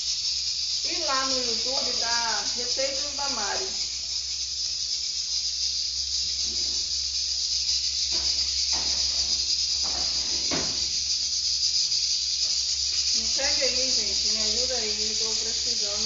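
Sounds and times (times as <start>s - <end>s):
pork fat sizzling in oil: 0.0s - 15.9s.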